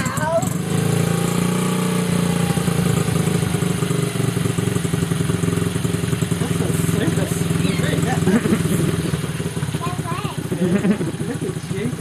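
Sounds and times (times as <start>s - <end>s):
motorbike engine idling: 0.0s - 12.0s.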